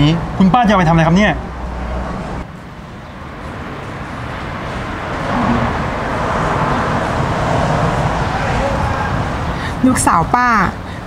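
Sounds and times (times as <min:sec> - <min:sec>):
road traffic noise: 0:00.0 - 0:11.0
vehicle passing: 0:00.0 - 0:11.0.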